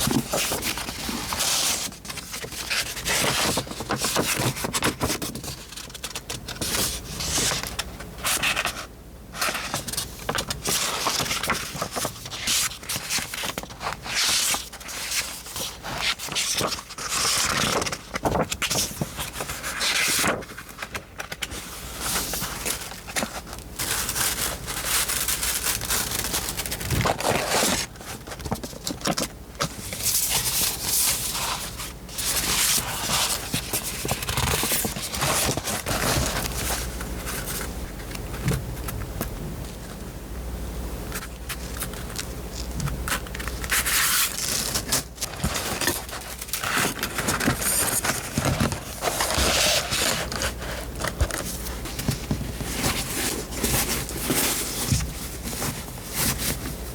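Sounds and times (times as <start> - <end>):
paper rustling and sliding: 0.0 - 39.8, 41.1 - 56.9.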